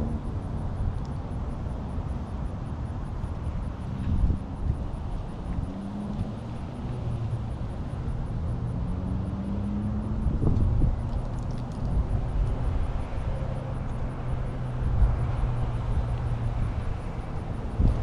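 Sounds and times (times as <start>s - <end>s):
car engine drone: 0.0s - 18.0s.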